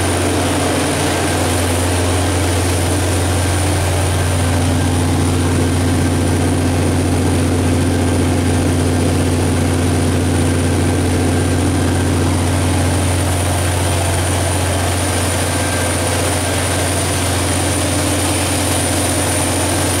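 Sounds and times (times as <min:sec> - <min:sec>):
diesel generator engine drone: 0:00.0 - 0:20.0
high-pitched whine: 0:00.0 - 0:20.0.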